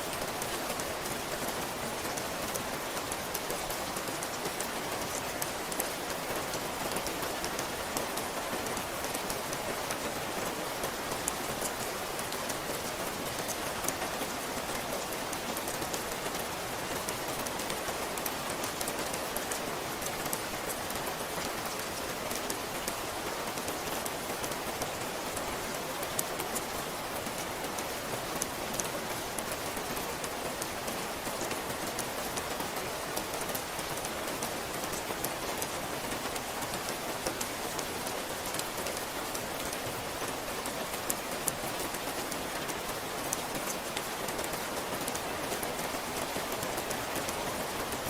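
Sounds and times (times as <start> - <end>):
rain pattering on a surface: 0.0 - 48.0.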